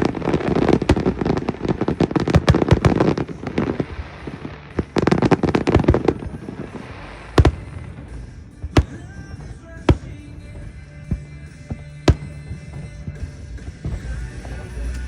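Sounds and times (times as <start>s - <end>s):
fireworks cracking and banging: 0.0s - 15.0s.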